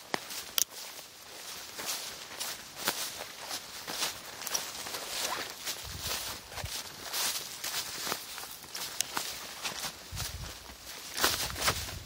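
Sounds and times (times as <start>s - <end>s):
footsteps through tall grass: 0.0s - 12.0s
grass stalks rustling: 0.0s - 12.0s.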